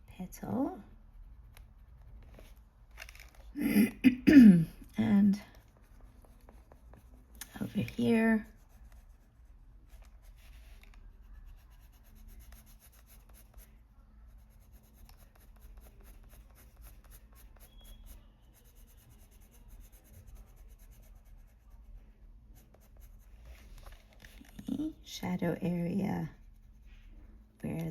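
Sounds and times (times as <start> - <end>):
pencil scratching on paper: 0.9 - 2.6, 5.3 - 24.3, 24.9 - 27.9.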